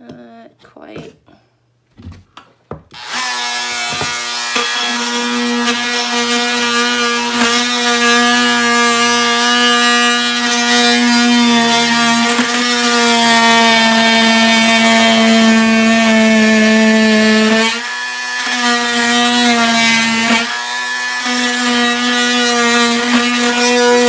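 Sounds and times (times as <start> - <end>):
cutter clicking on wood: 2.4 - 24.0
rotary tool whine: 3.0 - 24.0.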